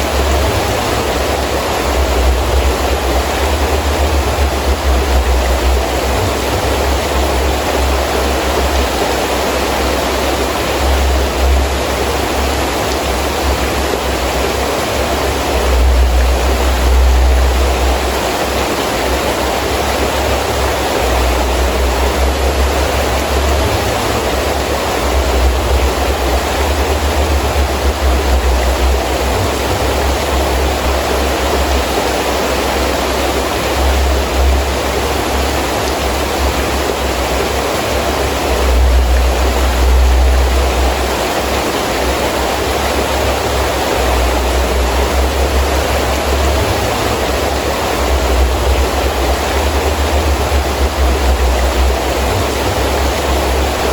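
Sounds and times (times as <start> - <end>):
heavy rain hissing: 0.0 - 53.9
wind gusts rumbling: 0.0 - 53.9.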